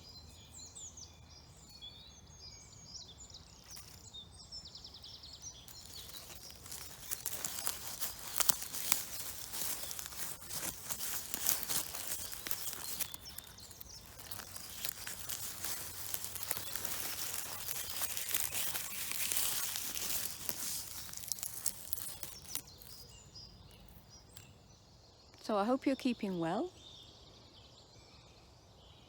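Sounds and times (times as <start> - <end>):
twigs and leaves crackling: 0.0 - 24.6.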